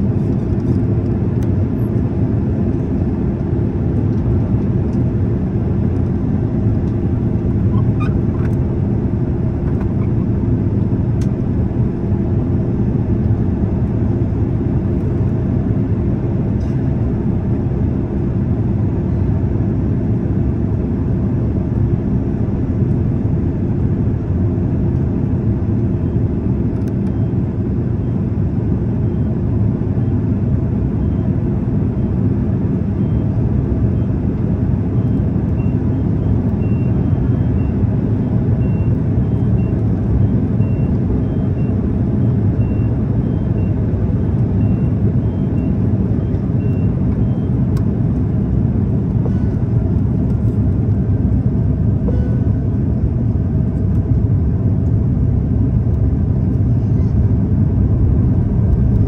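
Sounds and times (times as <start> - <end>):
constant low hum: 0.0 - 59.0
jet engines rumbling: 0.0 - 59.0.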